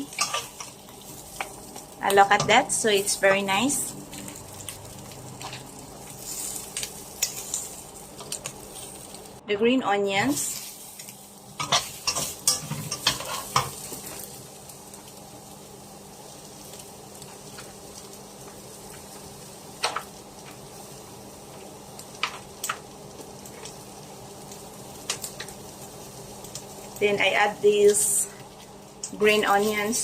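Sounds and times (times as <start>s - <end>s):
onions sizzling in butter: 0.0s - 30.0s.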